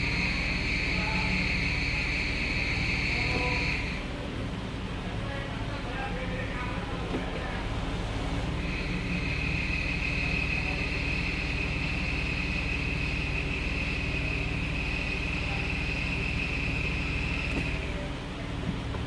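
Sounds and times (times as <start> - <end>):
high-pitched engine whine: 0.0 - 6.7, 7.8 - 18.7
car engine running: 0.0 - 19.0.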